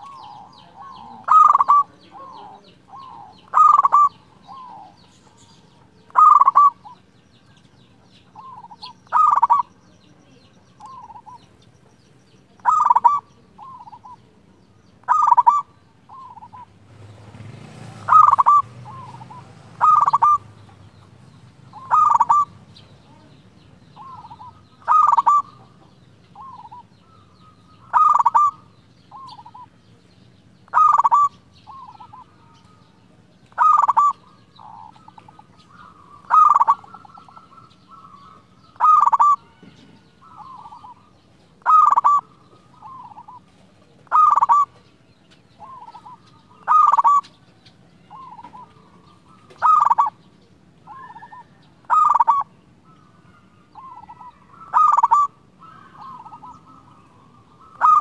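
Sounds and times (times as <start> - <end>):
dove cooing: 0.0 - 11.7, 12.4 - 29.8, 30.4 - 58.0.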